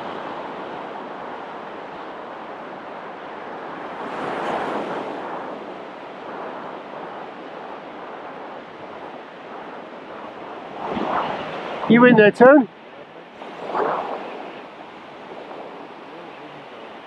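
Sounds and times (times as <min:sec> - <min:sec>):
surf washing on shore: 0:00.0 - 0:17.0
wind on microphone: 0:00.0 - 0:17.0.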